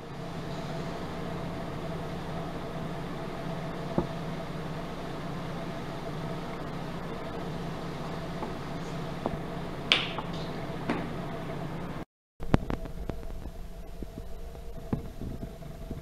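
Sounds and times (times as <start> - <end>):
mechanical room hum: 0.0 - 16.0.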